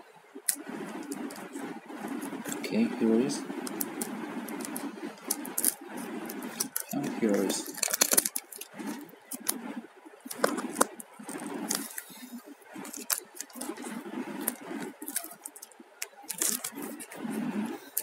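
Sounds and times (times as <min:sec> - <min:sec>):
plastic packaging crinkling: 0:03.5 - 0:18.0.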